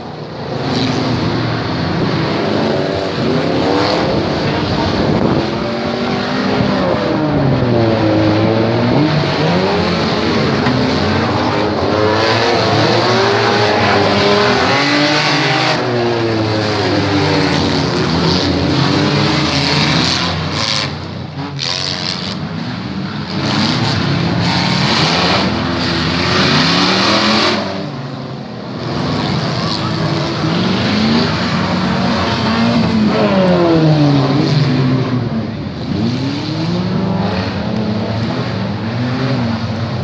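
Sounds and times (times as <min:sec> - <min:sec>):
car engines revving: 0:00.0 - 0:40.0
tyre and engine noise: 0:00.4 - 0:28.0, 0:28.8 - 0:40.0.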